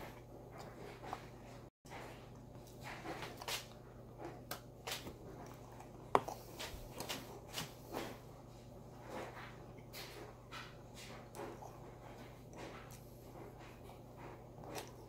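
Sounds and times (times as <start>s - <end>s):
crunching and chewing: 0.0s - 8.2s, 9.0s - 15.0s.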